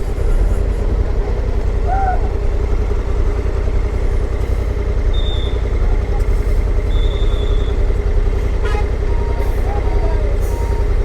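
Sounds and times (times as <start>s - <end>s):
motorcycle engine rumble: 0.0s - 11.0s
road and wind noise: 0.0s - 11.0s.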